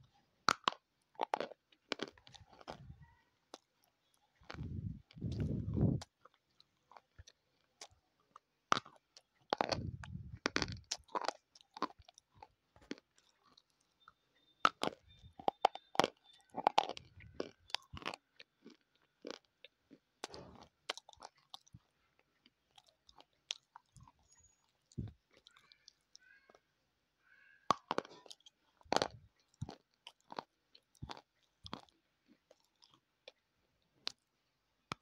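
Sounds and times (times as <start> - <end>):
biting and chewing crunchy bar: 0.0 - 26.8, 27.6 - 35.0.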